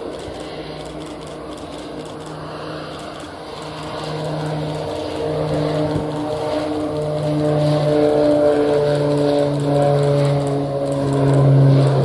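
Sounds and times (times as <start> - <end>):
propeller aircraft drone: 0.0 - 12.0.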